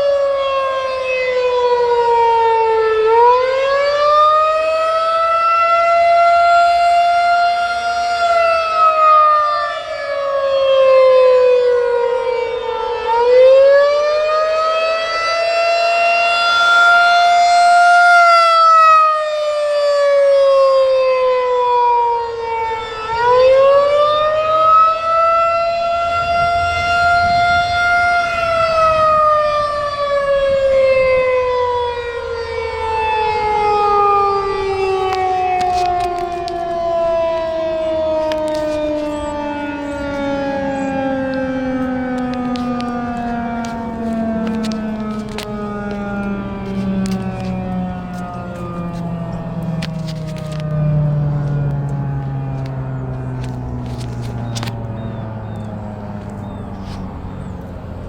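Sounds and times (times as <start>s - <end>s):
rotating siren wailing: 0.0s - 58.0s.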